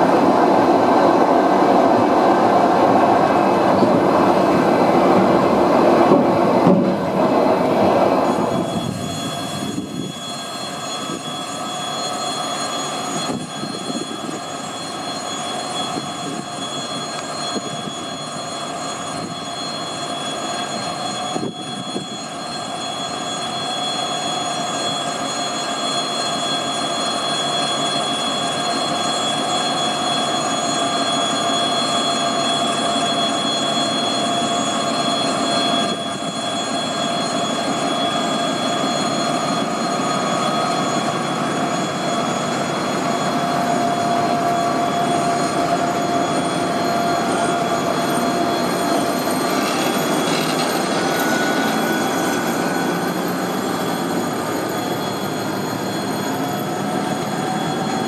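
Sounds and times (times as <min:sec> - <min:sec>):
diesel locomotive engines running: 0:00.0 - 0:58.0
high whine: 0:00.0 - 0:58.0.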